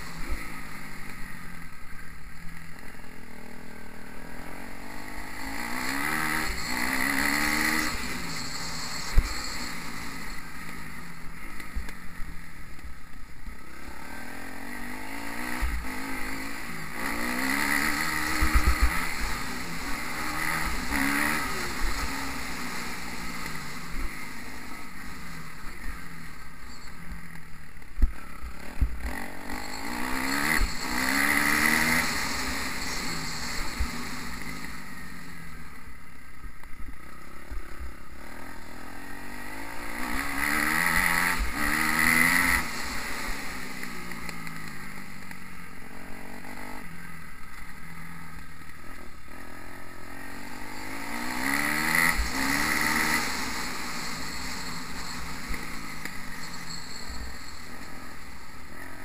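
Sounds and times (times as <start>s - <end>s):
dirt bike engine accelerating: 0.0s - 59.0s.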